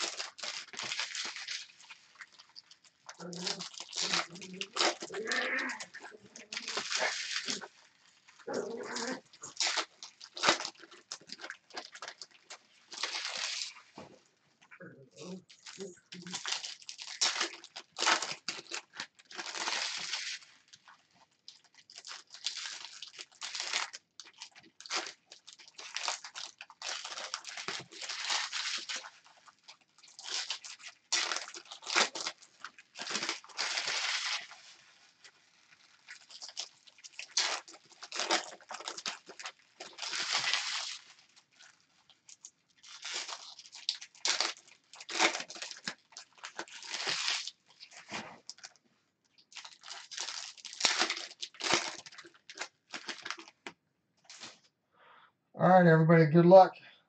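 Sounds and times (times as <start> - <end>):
foil wrappers crinkling and tearing: 0.0 - 54.7.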